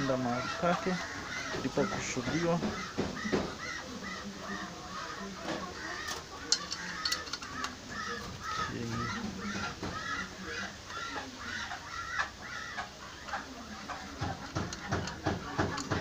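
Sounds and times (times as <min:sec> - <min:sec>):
bird calling: 0:00.0 - 0:16.0.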